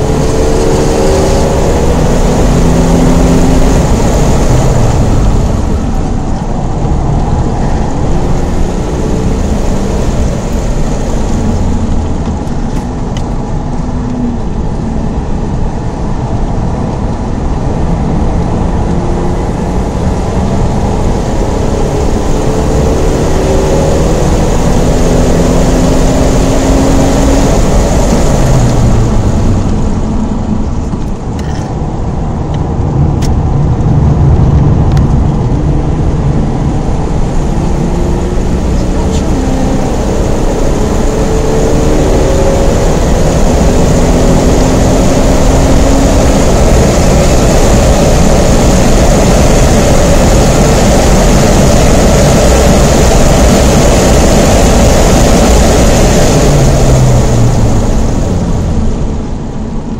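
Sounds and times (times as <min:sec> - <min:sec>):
car engine accelerating: 0:00.0 - 0:59.9
wind and tyre noise: 0:00.0 - 0:59.9.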